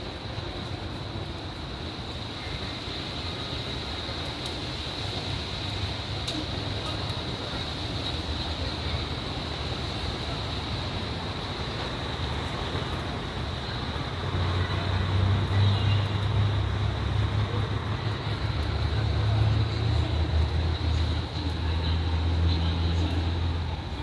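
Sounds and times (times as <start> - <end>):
rumble of passing vehicles: 0.0 - 24.0.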